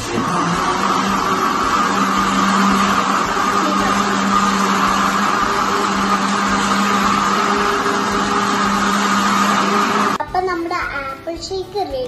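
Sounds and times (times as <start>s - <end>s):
electric blender running: 0.0s - 10.2s.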